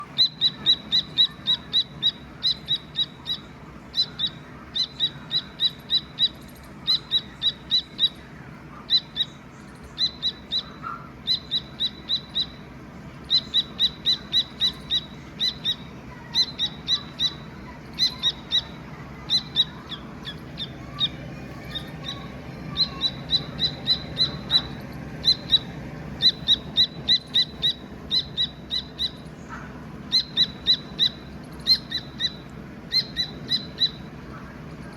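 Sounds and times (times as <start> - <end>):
partridge chick peeping: 0.1 - 34.9.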